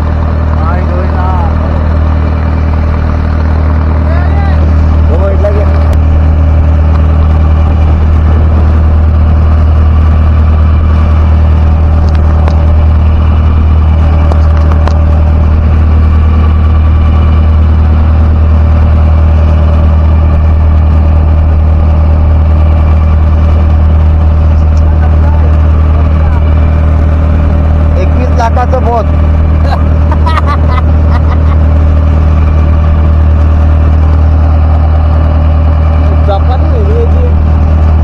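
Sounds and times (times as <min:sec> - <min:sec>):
boat motor droning: 0:00.0 - 0:38.0.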